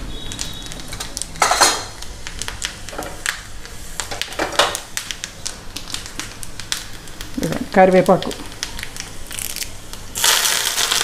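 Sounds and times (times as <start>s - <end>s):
oil sizzling: 0.0s - 11.0s
seeds popping in hot oil: 0.0s - 11.0s.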